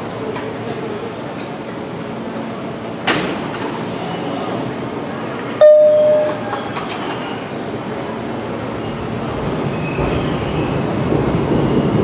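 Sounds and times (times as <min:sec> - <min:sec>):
subway train rumbling hum: 0:00.0 - 0:12.0.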